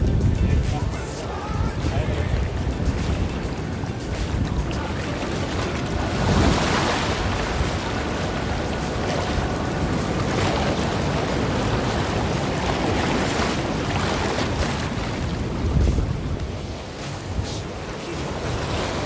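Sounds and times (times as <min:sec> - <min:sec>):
small waves on sandy shore: 0:00.0 - 0:19.0
wind buffeting microphone: 0:00.0 - 0:19.0.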